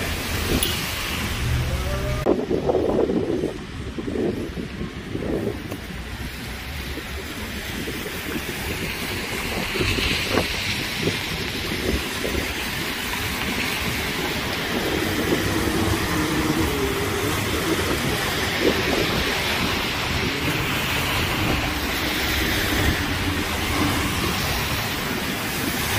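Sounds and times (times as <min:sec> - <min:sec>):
low traffic rumble: 0:00.0 - 0:25.9
tyres hissing on wet road: 0:00.0 - 0:25.9.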